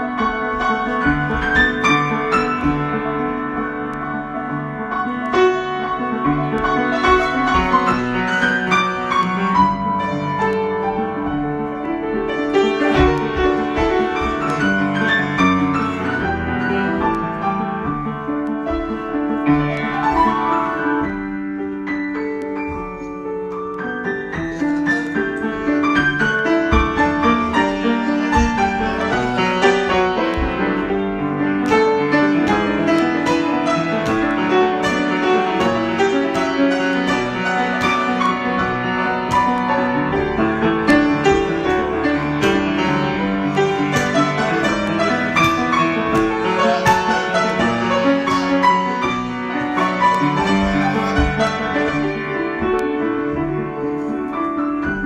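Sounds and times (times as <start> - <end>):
solo piano improvisation: 0.0 - 55.0.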